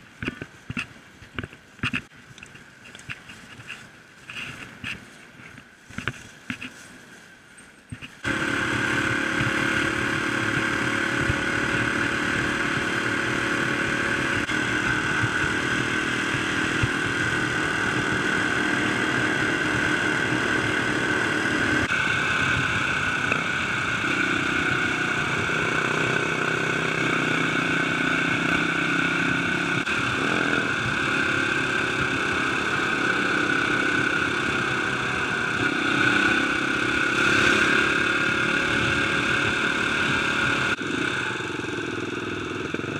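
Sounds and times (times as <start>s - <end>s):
wind and road noise: 0.0s - 42.9s
dirt bike engine running: 7.9s - 42.9s.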